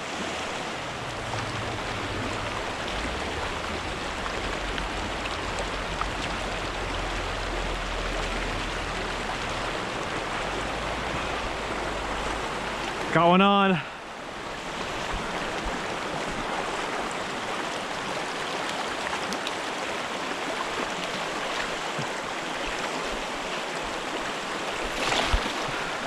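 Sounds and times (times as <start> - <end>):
creek water running: 0.0 - 26.0.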